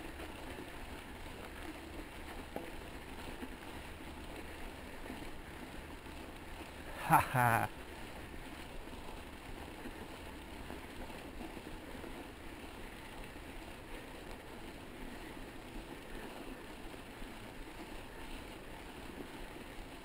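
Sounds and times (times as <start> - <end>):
bike tyres crunching on snow: 0.0 - 20.0.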